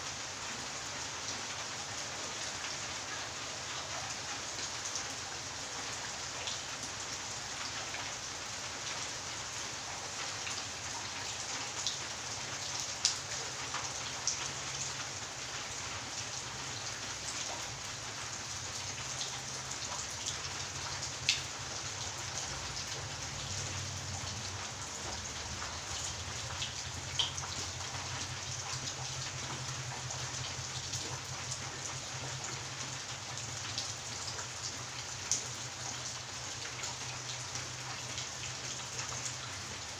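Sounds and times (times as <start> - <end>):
steady rain on paving: 0.0 - 39.9.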